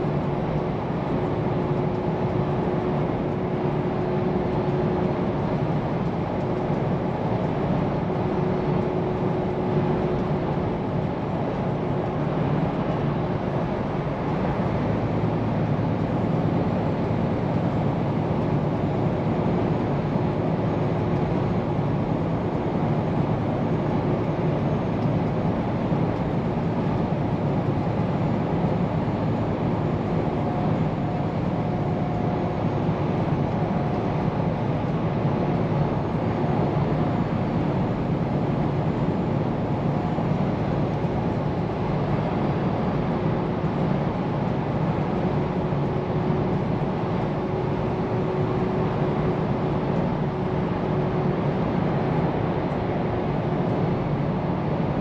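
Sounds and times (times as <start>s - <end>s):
faint steady whine: 0.0s - 55.0s.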